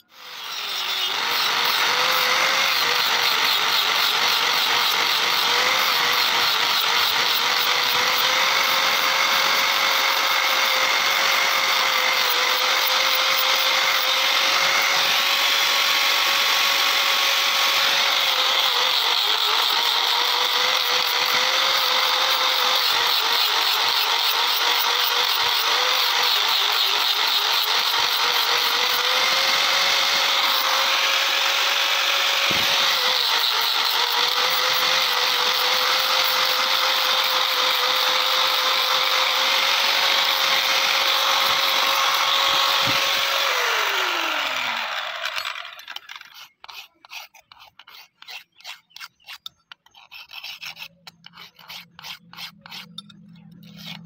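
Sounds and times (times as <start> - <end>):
angle grinder grinding metal: 0.0 - 54.0.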